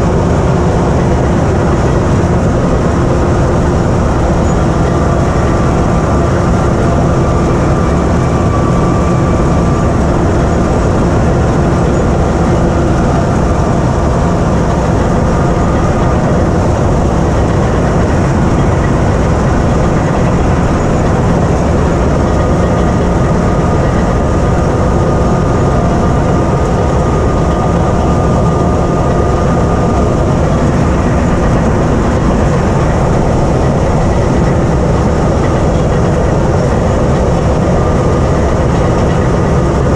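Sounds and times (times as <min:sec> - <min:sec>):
bulldozer diesel engine running: 0:00.0 - 0:39.9
steel tracks clattering: 0:00.0 - 0:39.9.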